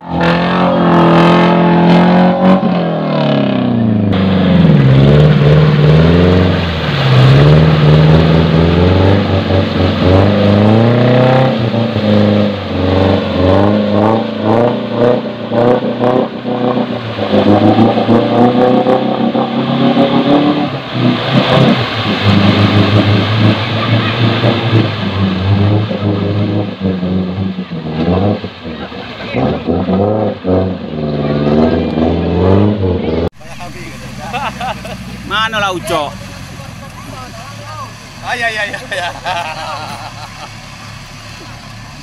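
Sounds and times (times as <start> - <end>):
off-road engine revving: 0.0 - 42.0
tyres churning through mud: 0.0 - 42.0.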